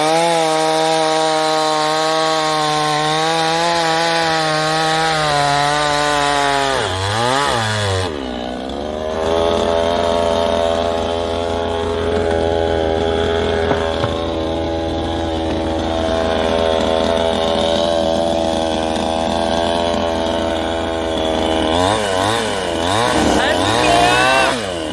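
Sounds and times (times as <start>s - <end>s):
chainsaw engine revving: 0.0s - 24.9s.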